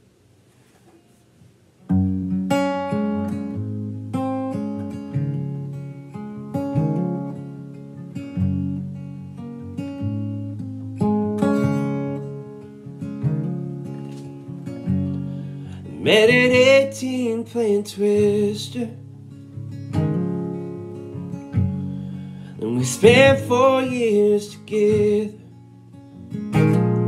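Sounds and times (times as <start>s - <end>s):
acoustic guitar chords: 1.7s - 27.0s.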